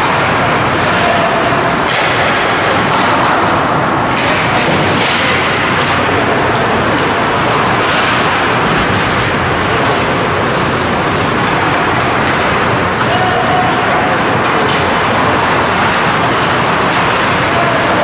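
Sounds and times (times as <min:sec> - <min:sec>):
ice rink crowd noise: 0:00.0 - 0:18.0.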